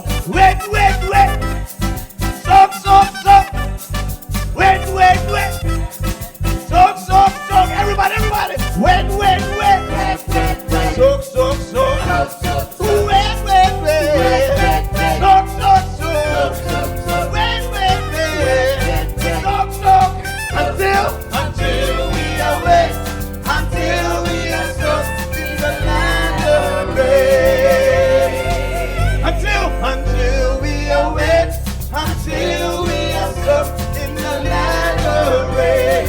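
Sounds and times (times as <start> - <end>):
gospel band bass and beat: 0.0 - 36.0.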